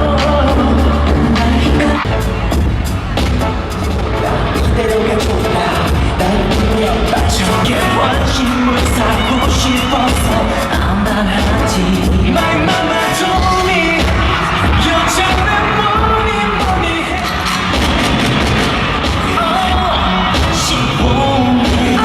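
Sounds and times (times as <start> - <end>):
man singing: 0.0 - 2.2, 4.1 - 17.5, 19.2 - 22.0
pop band with drum beat: 0.0 - 22.0.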